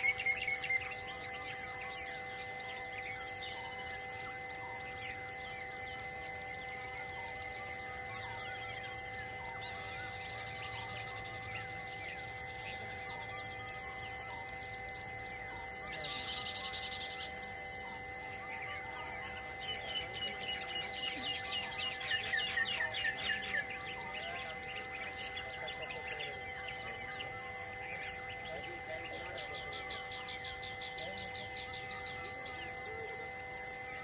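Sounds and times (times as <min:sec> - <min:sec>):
birds chirping and trilling: 0:00.0 - 0:34.0
steady humming drone: 0:00.0 - 0:34.0.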